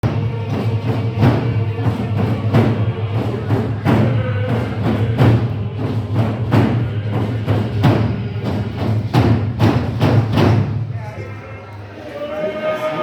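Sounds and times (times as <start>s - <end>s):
hand drums beating: 0.0s - 10.9s.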